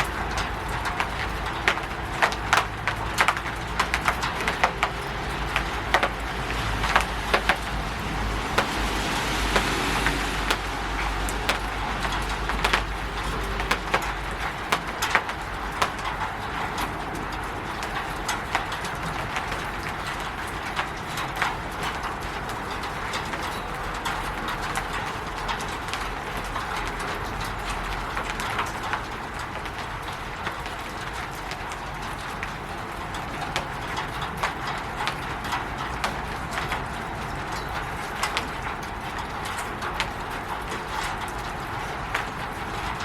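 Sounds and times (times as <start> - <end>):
rain on a roof: 0.0 - 43.0.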